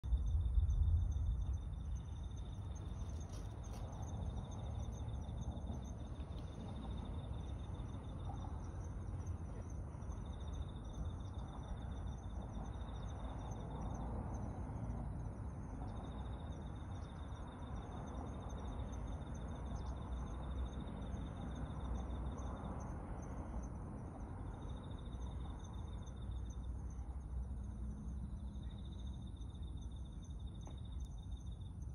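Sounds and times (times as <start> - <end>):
low outdoor rumble: 0.0 - 31.9
insects trilling: 0.1 - 31.9.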